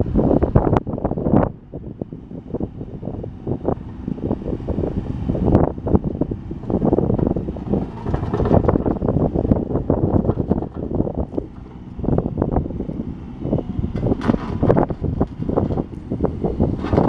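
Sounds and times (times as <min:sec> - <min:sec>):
excavator diesel engine running: 0:00.0 - 0:17.0
wind buffeting microphone: 0:00.0 - 0:17.0.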